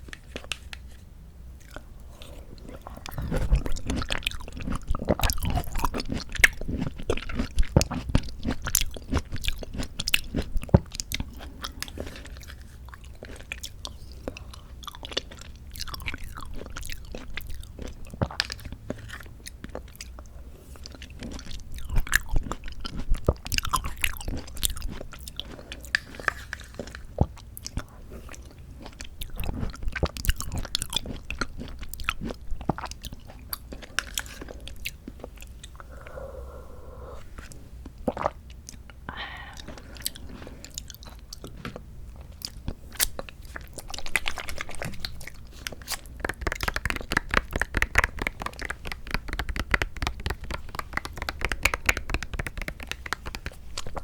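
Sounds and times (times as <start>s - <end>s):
wet squishy chewing: 1.6s - 54.0s.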